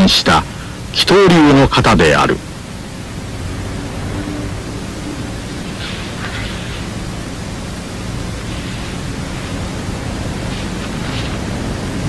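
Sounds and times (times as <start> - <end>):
background hiss: 0.0 - 12.0
faint low hum: 0.0 - 12.0.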